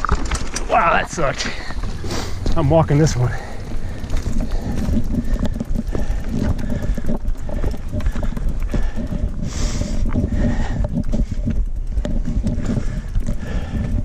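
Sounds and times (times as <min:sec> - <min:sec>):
footsteps on rocky trail: 0:00.0 - 0:14.0
steady low rumble: 0:00.0 - 0:14.0.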